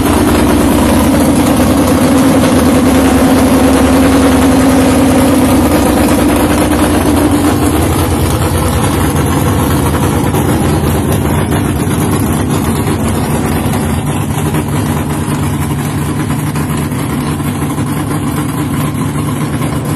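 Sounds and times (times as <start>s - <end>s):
race car engine idling: 0.0s - 19.9s.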